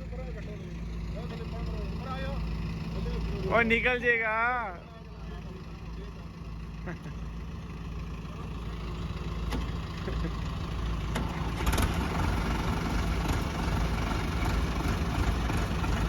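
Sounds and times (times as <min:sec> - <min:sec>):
diesel tractor engines under load: 0:00.0 - 0:16.0.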